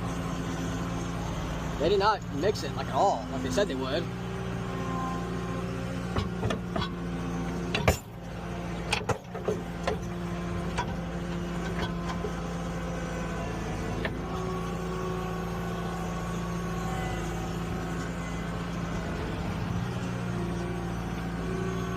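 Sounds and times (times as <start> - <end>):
skid steer engine running: 0.0 - 21.9.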